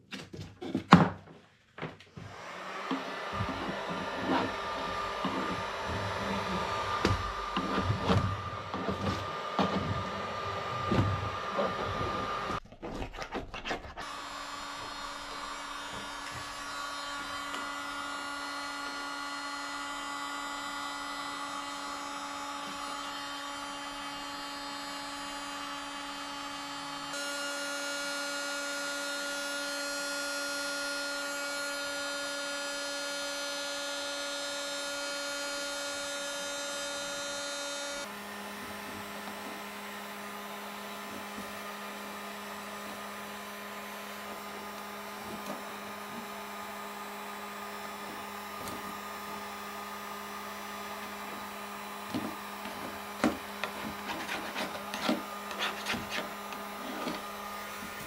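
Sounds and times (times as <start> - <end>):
heat gun blowing with motor whine: 2.1 - 12.6, 14.0 - 58.0.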